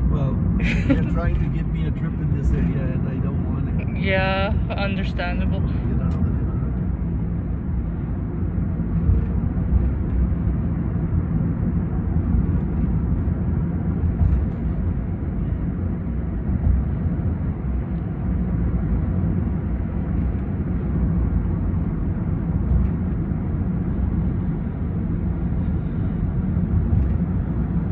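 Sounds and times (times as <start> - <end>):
road and engine rumble in car: 0.0 - 27.9.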